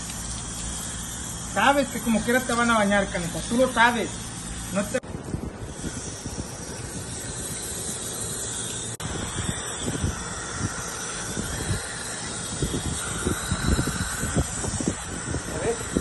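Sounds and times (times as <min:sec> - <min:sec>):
hose spray water hissing: 0:00.0 - 0:16.0.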